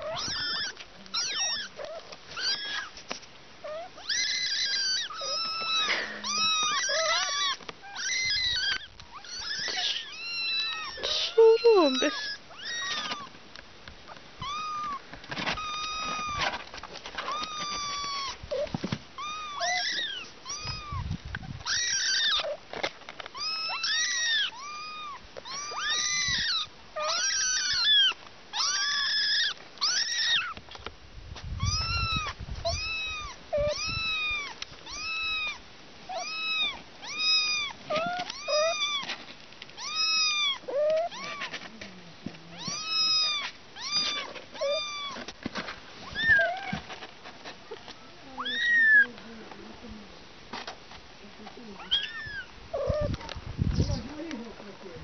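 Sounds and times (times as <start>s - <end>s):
kittens meowing: 0.0s - 3.0s, 3.6s - 13.4s, 14.1s - 16.6s, 17.2s - 22.6s, 23.3s - 30.7s, 31.6s - 41.9s, 42.5s - 45.4s, 46.0s - 47.0s, 47.7s - 49.2s, 51.7s - 54.4s.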